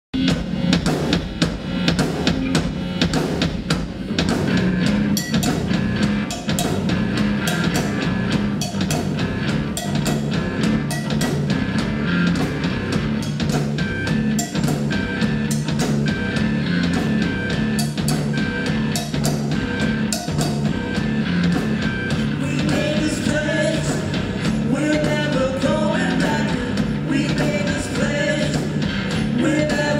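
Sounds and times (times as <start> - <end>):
rock band playing: 0.1 - 29.9.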